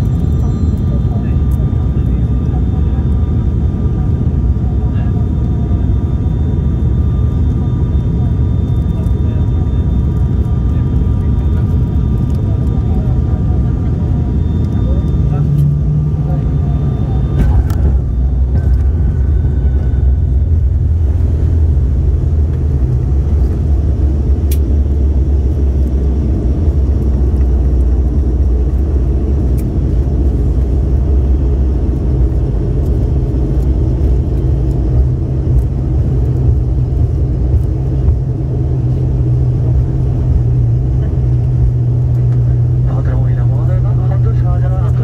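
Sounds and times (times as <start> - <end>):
airliner cabin rumble: 0.0 - 45.0
engine hum: 0.0 - 45.0.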